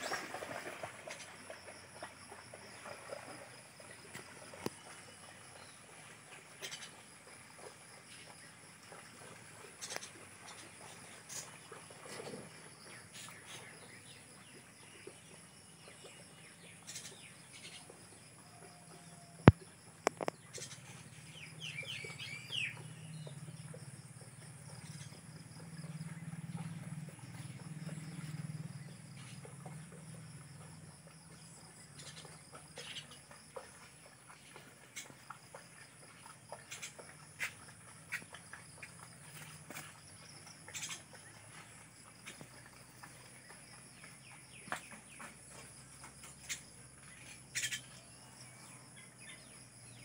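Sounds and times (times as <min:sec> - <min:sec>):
bird calls: 0:06.5 - 0:08.2, 0:09.6 - 0:50.0.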